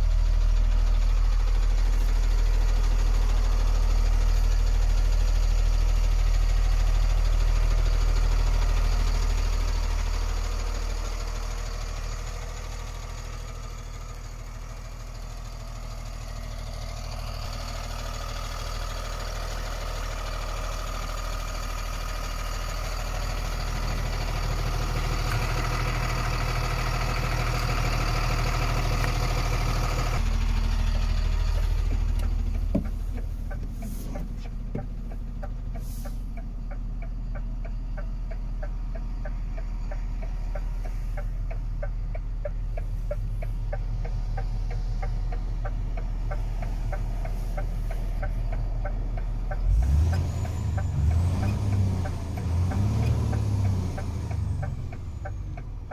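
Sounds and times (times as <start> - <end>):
diesel engine idling: 0.0 - 55.9
hazard light relay ticking: 0.5 - 55.9.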